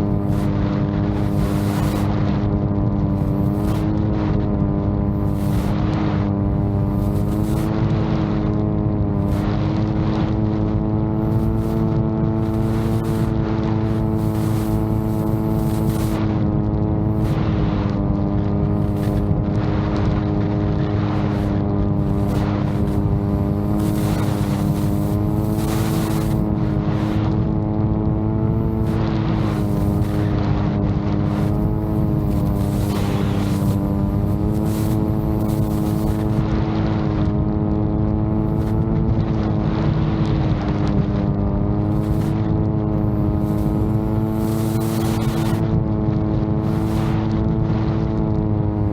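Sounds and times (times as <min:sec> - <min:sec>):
drone propellers humming: 0:00.0 - 0:48.9
wind gusts on microphone: 0:00.0 - 0:48.9.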